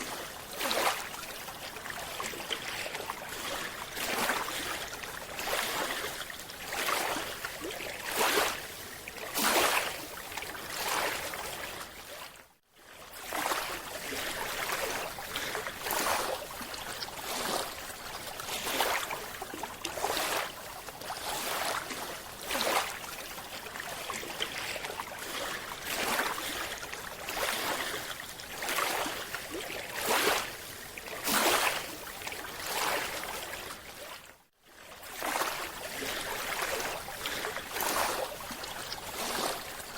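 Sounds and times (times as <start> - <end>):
water sloshing: 0.0 - 12.4, 13.2 - 34.3, 35.0 - 39.9.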